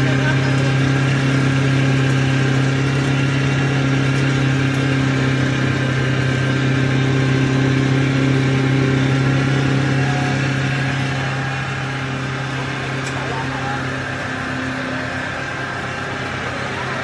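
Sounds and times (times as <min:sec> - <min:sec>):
pulveriser grinding sawdust: 0:00.0 - 0:17.0.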